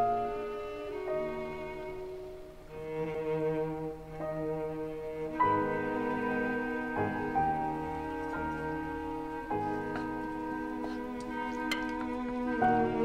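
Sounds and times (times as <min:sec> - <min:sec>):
slow bowed strings music: 0:00.0 - 0:13.0.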